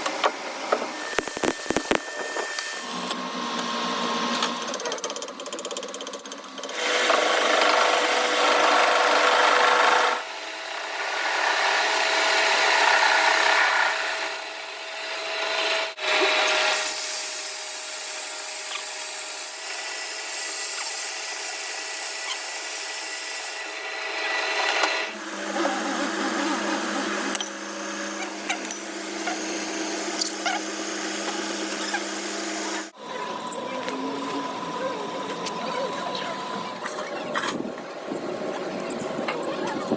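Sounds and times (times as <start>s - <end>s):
power tools machining metal: 0.9s - 37.6s.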